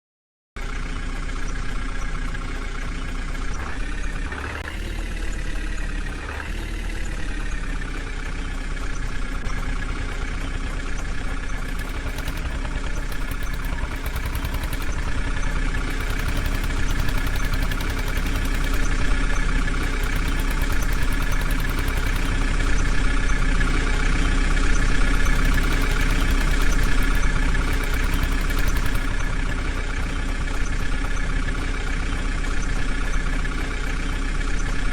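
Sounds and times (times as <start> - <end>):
diesel engine running and revving: 0.6 - 34.9.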